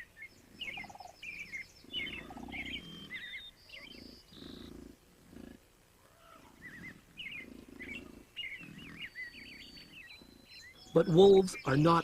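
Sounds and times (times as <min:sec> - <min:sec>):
small birds chirping: 0:00.0 - 0:12.0
bison grunting: 0:00.6 - 0:11.2.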